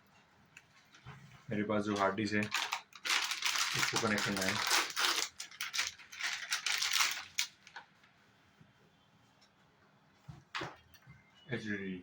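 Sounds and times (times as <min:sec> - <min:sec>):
rustling and scraping of computer parts: 0:00.0 - 0:11.2.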